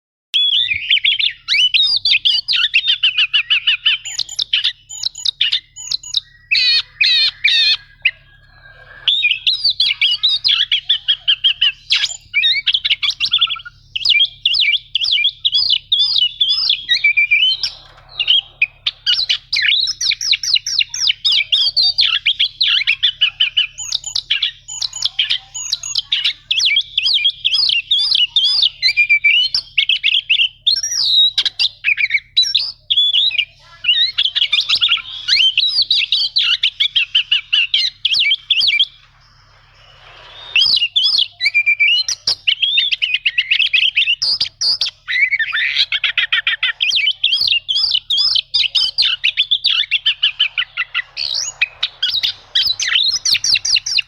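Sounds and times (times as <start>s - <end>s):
bird singing trills: 0.4s - 54.0s.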